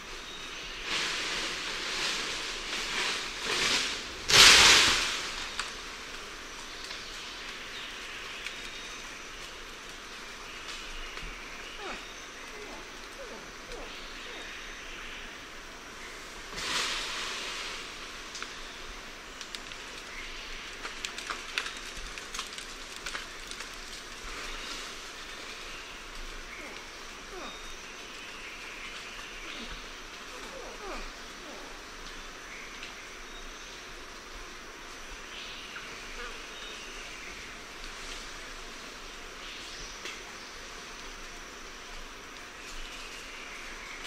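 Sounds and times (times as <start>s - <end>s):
leaves and branches rustling: 0.0s - 44.0s
low forest hush: 0.0s - 44.0s
steady background hiss: 0.0s - 44.0s.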